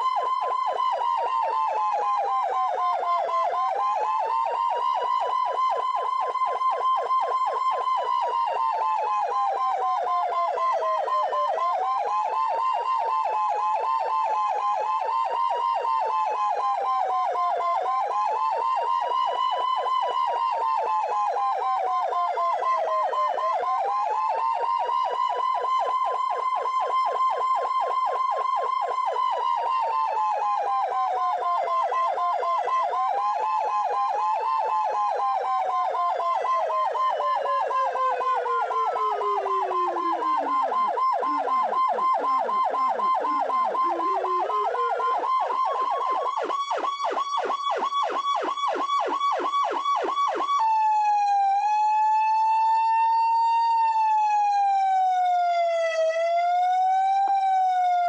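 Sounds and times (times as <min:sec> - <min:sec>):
rapid pulsing siren: 0:00.0 - 0:58.0
steady siren tone: 0:00.0 - 0:58.0
wailing siren: 0:00.0 - 0:58.0.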